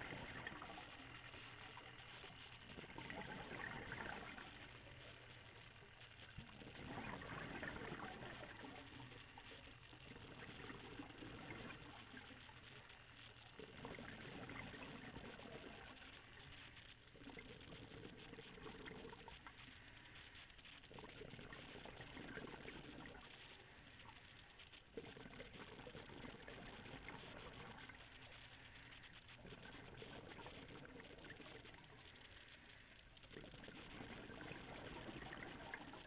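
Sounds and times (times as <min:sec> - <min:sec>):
bubbling exhaled air: 0:00.0 - 0:05.4, 0:06.4 - 0:12.9, 0:13.6 - 0:36.0.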